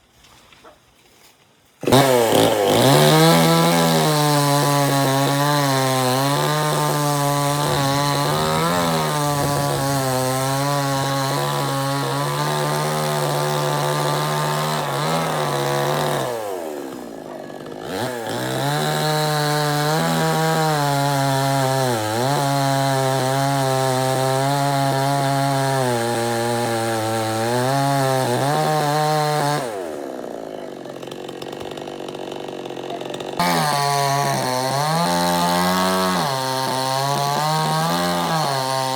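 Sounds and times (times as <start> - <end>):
chainsaw cutting wood: 1.8 - 38.9.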